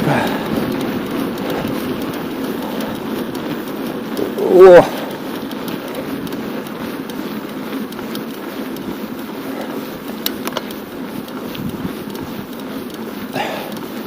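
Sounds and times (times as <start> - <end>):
bicycle tyres rolling: 0.0 - 14.0
sharp clicks: 0.0 - 14.0
wind: 0.0 - 14.0.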